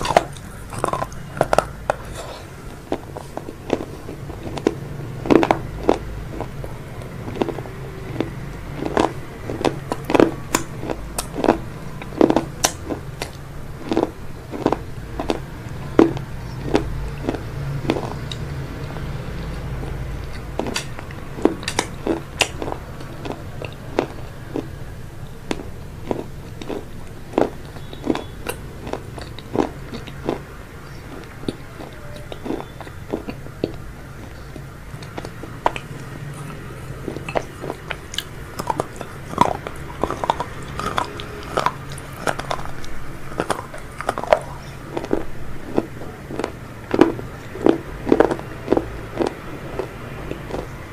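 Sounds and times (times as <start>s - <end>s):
crunchy chewing: 0.0s - 50.9s
steady low hum: 0.0s - 50.9s.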